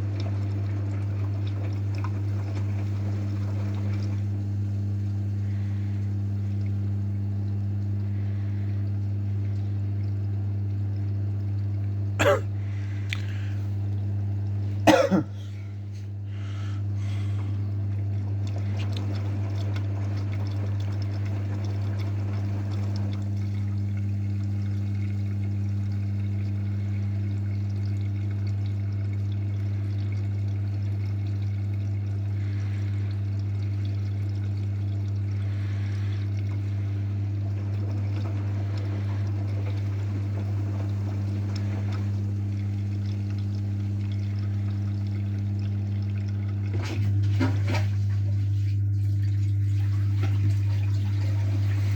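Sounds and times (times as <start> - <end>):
low electrical hum: 0.0 - 51.9
water pouring in washing machine: 0.0 - 51.9.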